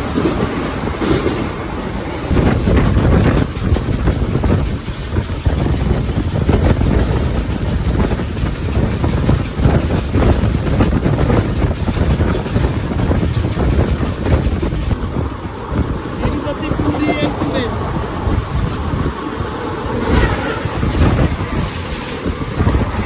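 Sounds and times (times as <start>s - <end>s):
train coach rumbling on track: 0.0s - 23.0s
wind buffeting microphone: 0.0s - 23.0s.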